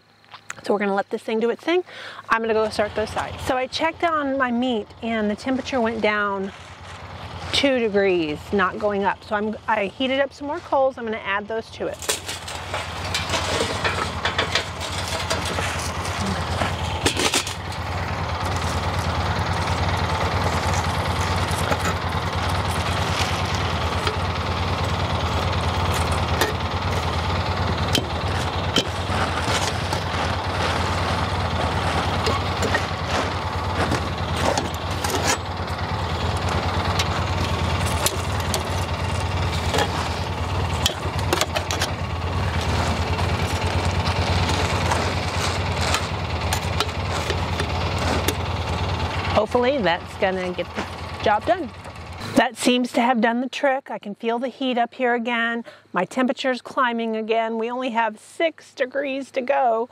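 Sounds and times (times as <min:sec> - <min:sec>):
engine idling: 0:01.8 - 0:52.4.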